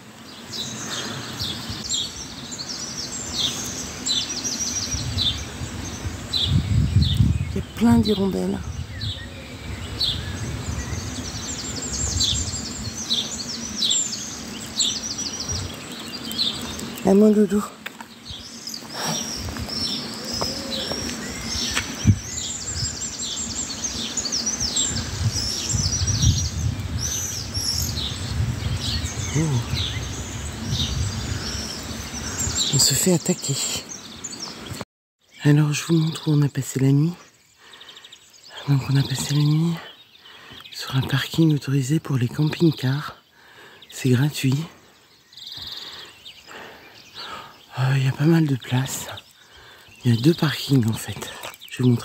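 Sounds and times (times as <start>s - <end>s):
swallows chirping: 0.0s - 52.0s.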